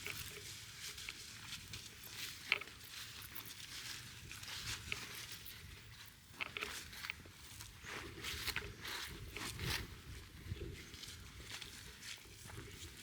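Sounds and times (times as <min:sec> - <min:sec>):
crunching footsteps on trail: 0:00.0 - 0:13.0.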